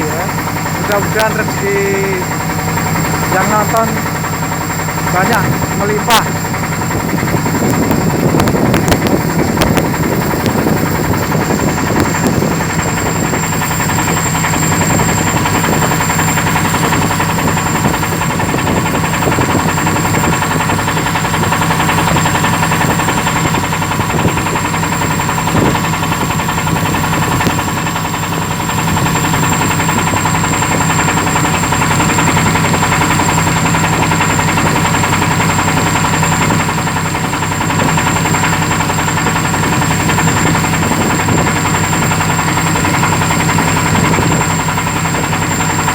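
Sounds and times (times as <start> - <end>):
boat engine droning: 0.0 - 45.9
high whine: 0.0 - 45.9.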